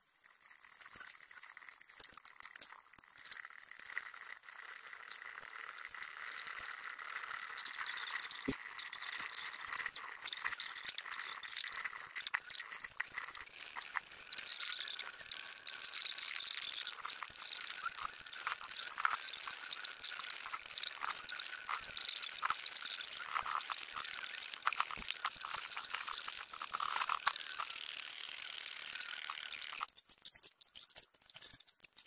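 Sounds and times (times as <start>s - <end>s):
small robots rattling and scraping: 0.2s - 32.0s.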